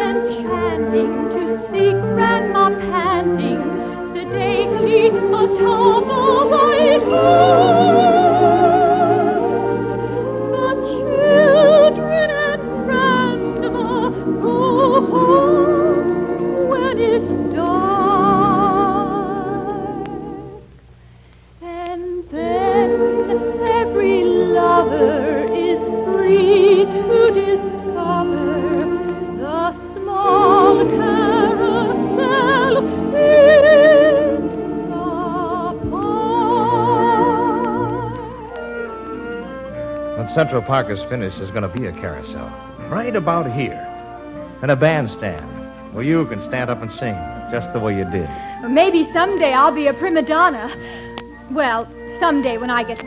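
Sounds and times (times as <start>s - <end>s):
orchestral accompaniment: 0.0s - 20.6s, 22.1s - 53.0s
soprano singing operatically: 0.0s - 20.6s, 21.6s - 40.1s, 47.9s - 53.0s.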